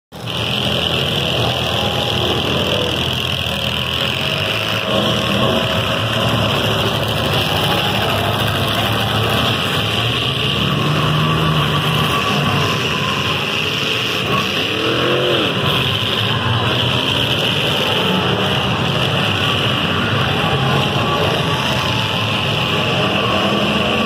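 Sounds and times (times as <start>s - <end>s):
car engines running: 0.1s - 24.0s.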